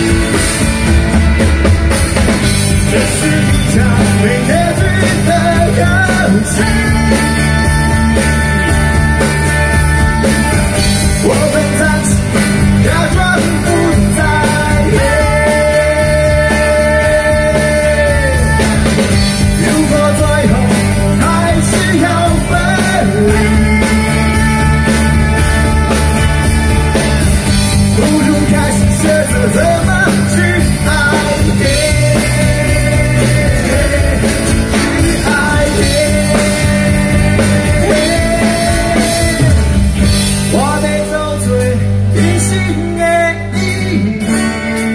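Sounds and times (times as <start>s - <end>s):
rock band playing live: 0.0s - 44.9s.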